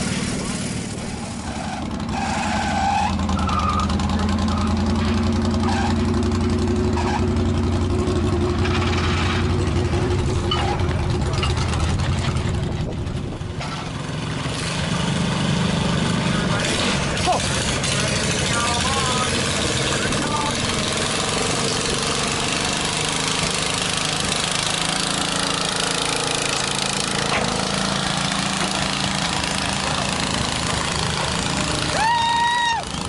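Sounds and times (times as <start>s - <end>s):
lawn tractor engine under load: 0.0s - 33.0s.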